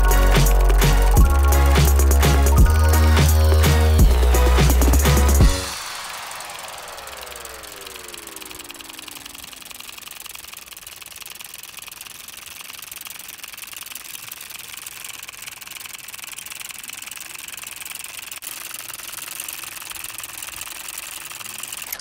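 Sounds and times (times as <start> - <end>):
solenoid engine clattering: 0.0 - 22.0.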